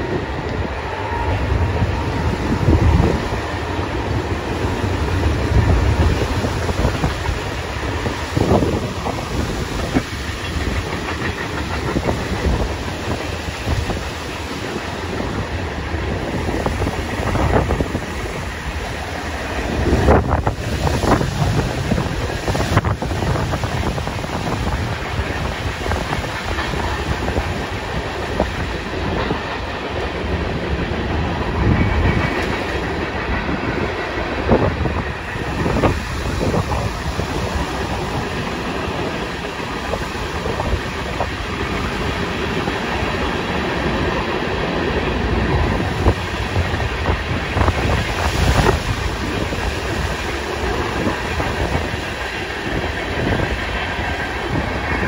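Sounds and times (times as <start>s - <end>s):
clickety-clack over rail joints: 0.0s - 55.0s
rumble of train wheels on rail: 0.0s - 55.0s.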